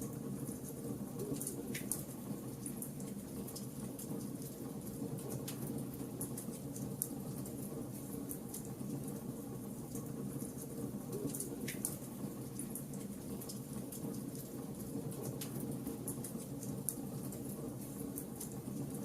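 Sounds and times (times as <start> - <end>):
wood fire burning: 0.4 - 19.0.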